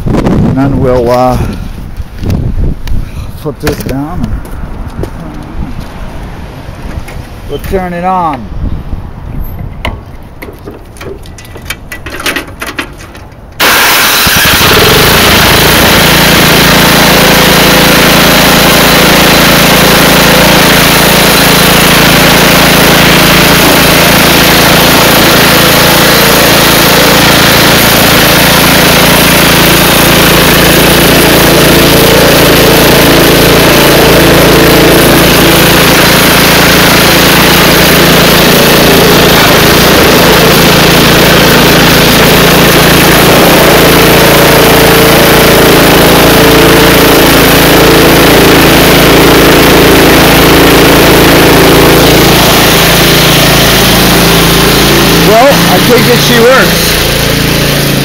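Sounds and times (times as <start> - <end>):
snowblower engine running: 10.9 - 58.0.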